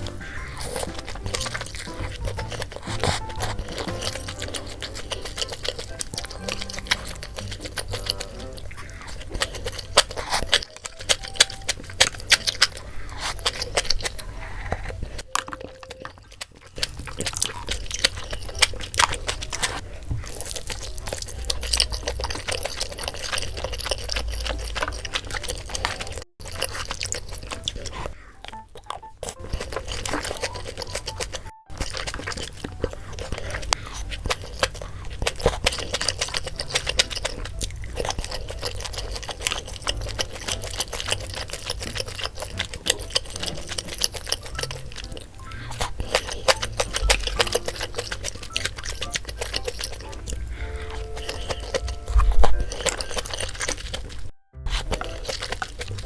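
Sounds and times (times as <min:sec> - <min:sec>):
chewing and slurping noodles: 0:00.0 - 0:56.0
light background music: 0:00.0 - 0:56.0.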